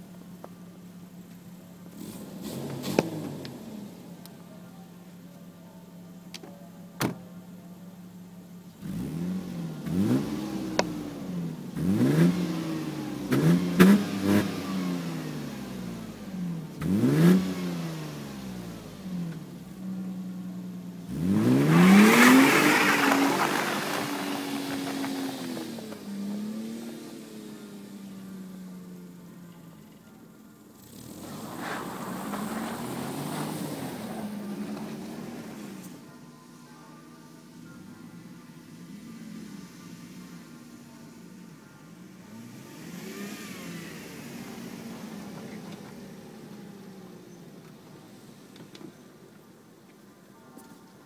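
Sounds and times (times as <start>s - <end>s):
car engine idling and revving: 0.0s - 51.0s.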